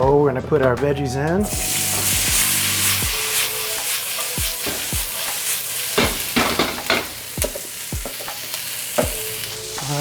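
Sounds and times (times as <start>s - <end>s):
vegetables sizzling in a pan: 1.5s - 10.0s.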